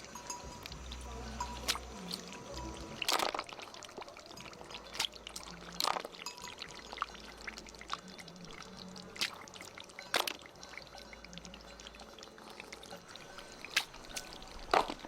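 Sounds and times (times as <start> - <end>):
water splashes: 0.0 - 15.0
water trickling and pouring: 0.0 - 15.0.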